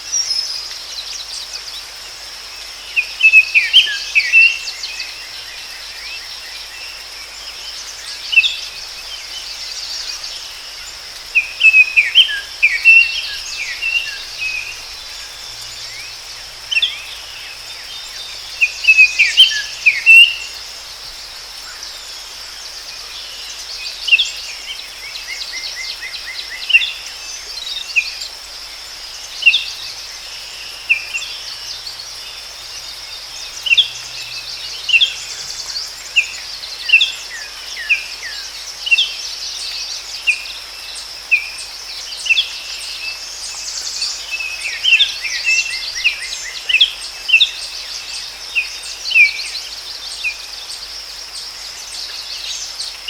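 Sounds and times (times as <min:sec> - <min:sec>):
faint background hiss: 0:00.0 - 0:53.0
high insect drone: 0:00.0 - 0:53.0
small birds chirping: 0:00.0 - 0:53.0.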